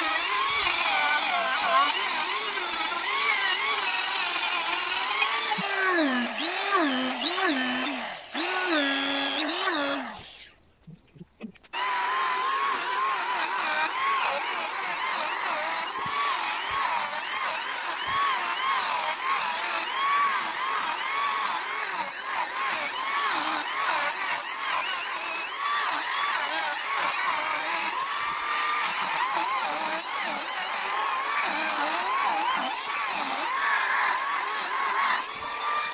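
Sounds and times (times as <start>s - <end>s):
rotary grinder on wood: 0.0s - 10.6s, 11.6s - 35.9s.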